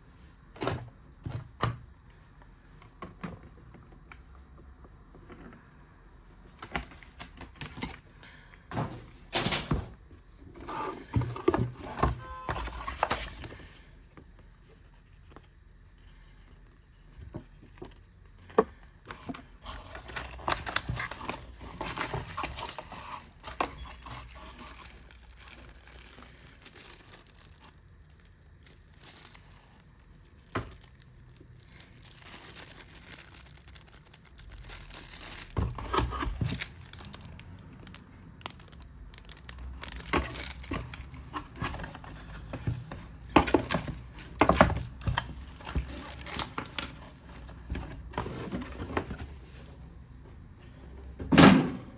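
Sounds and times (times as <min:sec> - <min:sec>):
plastic and cardboard crinkling: 0:06.4 - 0:50.5.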